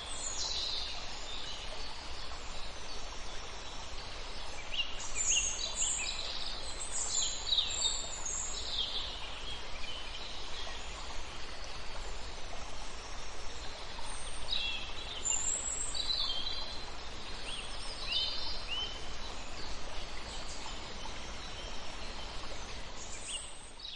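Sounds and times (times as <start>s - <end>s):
steady background hiss: 0.0s - 23.9s.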